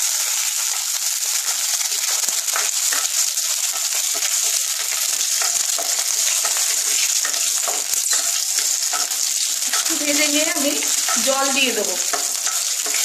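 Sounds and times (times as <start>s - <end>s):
seeds sizzling in hot oil: 0.0s - 13.0s
wooden spatula stirring: 1.4s - 13.0s.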